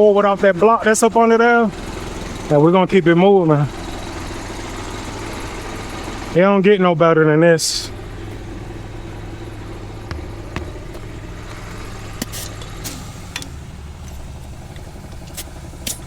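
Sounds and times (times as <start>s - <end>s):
engine idling: 0.0s - 16.0s
tire being aired up: 0.0s - 16.0s.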